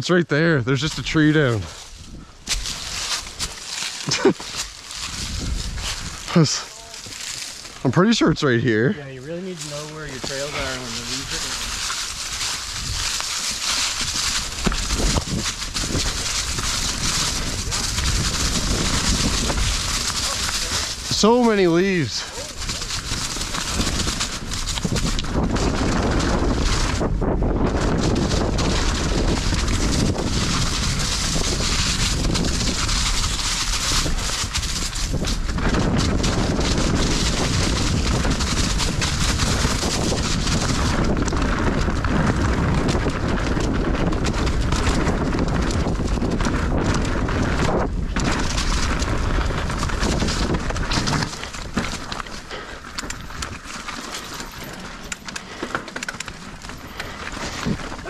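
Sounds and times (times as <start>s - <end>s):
bike tyre noise on dirt: 0.0s - 58.0s
wind on camera microphone: 0.7s - 8.7s, 9.4s - 58.0s
bike clicks and rattles: 0.7s - 58.0s.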